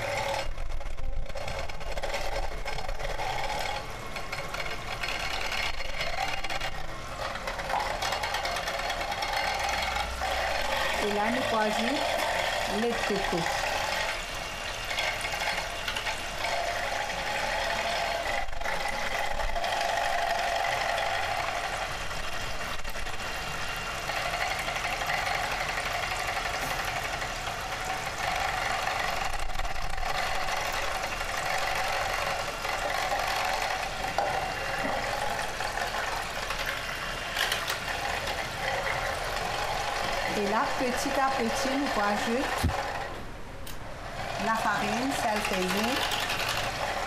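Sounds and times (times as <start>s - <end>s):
electric mixer whisking batter: 0.0s - 43.2s, 44.0s - 47.0s.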